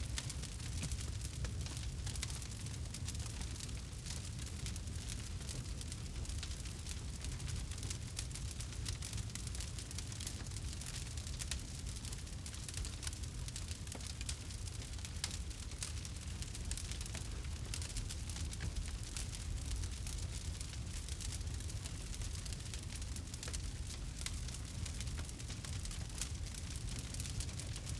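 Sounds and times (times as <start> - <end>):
campfire crackling: 0.0 - 27.9.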